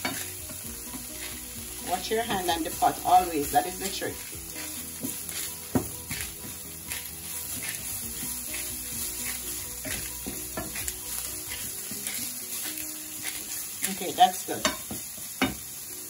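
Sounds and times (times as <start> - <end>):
wooden spatula scraping pan: 0.0 - 15.0
meat and onions sizzling in pan: 0.0 - 16.0.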